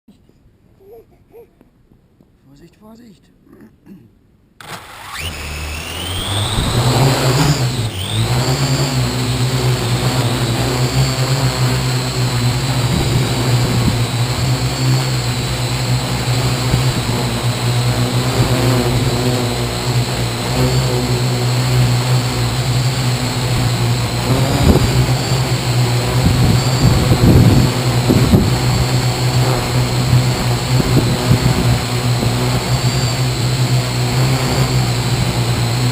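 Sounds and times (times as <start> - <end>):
drone motors and propellers whining: 4.6 - 35.9.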